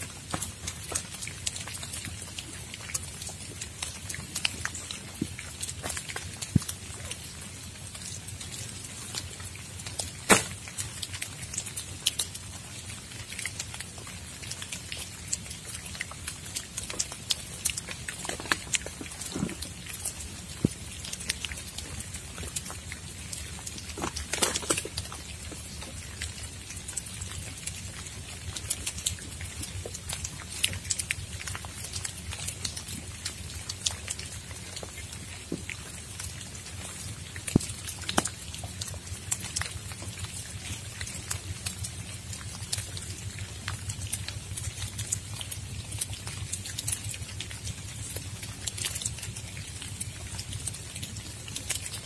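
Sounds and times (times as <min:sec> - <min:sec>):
raindrops tapping: 0:00.0 - 0:52.0.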